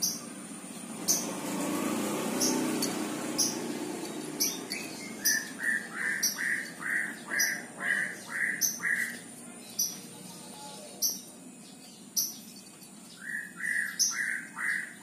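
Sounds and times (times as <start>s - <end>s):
high bird chirps: 0.0s - 1.4s, 2.0s - 15.0s.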